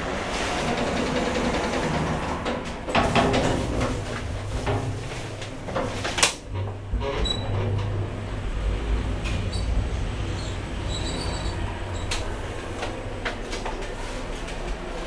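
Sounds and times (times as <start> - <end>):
lift car rumbling: 0.0 - 15.0.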